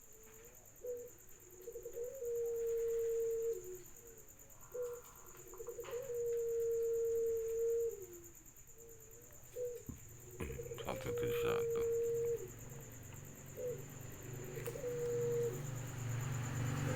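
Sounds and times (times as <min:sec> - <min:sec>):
dove cooing: 0:00.1 - 0:16.9.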